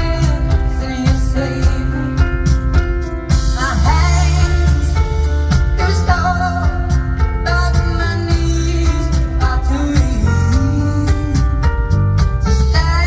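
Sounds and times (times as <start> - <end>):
band with bass and drums: 0.0 - 13.0.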